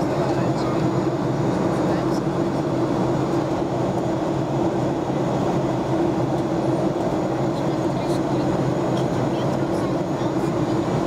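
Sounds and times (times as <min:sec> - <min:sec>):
jet engine drone: 0:00.0 - 0:11.0.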